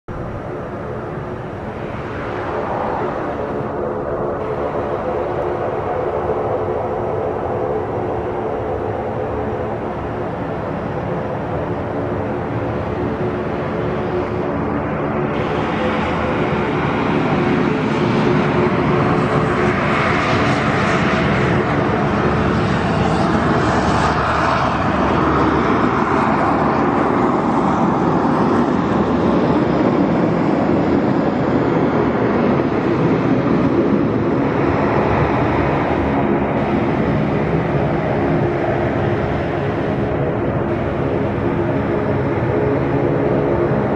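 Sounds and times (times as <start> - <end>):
jet engine rush: 0.1 - 43.9.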